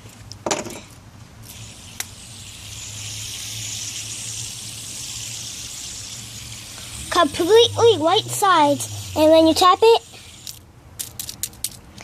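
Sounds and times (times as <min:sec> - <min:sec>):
fidget spinner whirring: 0:01.4 - 0:11.8.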